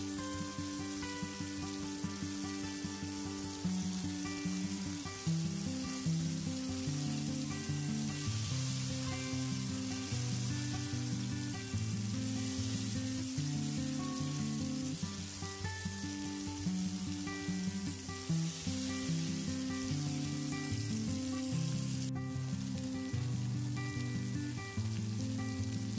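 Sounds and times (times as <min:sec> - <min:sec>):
paste sizzling in hot oil: 0:00.0 - 0:25.9.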